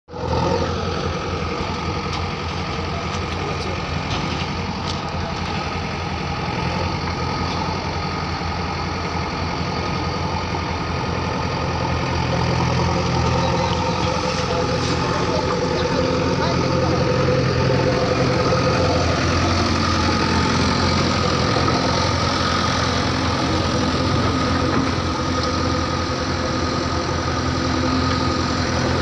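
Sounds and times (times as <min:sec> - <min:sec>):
diesel engine idling: 0:00.1 - 0:29.0.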